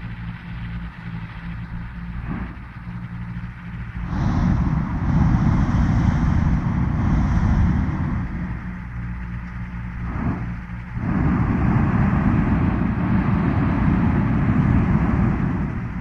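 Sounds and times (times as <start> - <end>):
propane burner blast: 0.0 - 16.0
propeller engine hum: 0.0 - 16.0.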